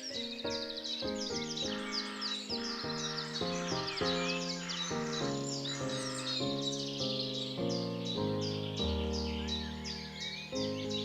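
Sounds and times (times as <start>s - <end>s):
birds chirping: 0.0s - 11.0s
gentle piano music: 0.0s - 11.0s.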